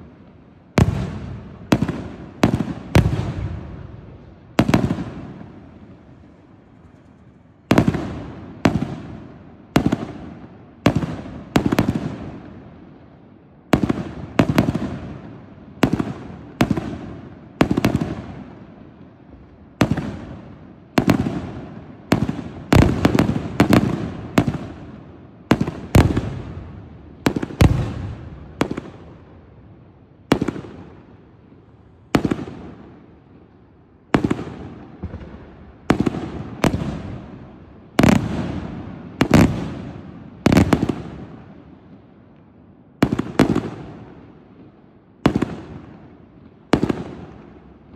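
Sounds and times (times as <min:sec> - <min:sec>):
fireworks bursting with echoing bangs: 0:00.0 - 0:47.9.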